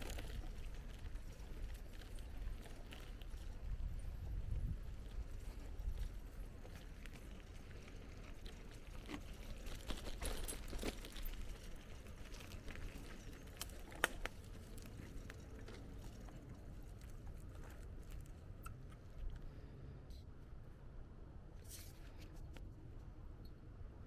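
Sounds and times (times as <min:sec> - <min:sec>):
bike clicks and rattles: 0:00.0 - 0:19.5
bicycle tyres rumbling: 0:00.0 - 0:20.0.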